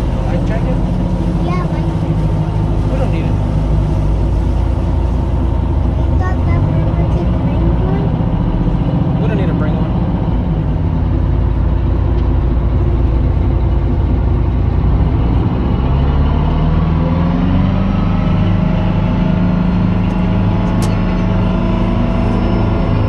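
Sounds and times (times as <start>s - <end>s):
boat engine running: 0.0s - 23.0s.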